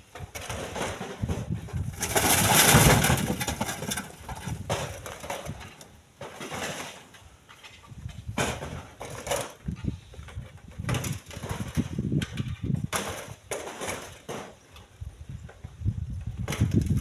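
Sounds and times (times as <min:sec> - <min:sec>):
stones clattering into truck bed: 0:00.1 - 0:14.9, 0:16.3 - 0:17.0.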